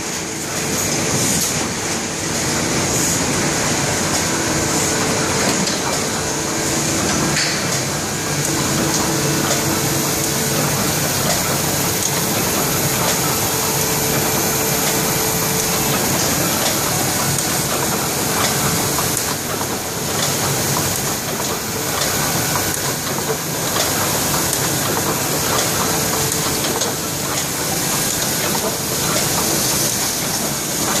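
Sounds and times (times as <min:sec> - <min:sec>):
printing press clatter: 0:00.0 - 0:31.0.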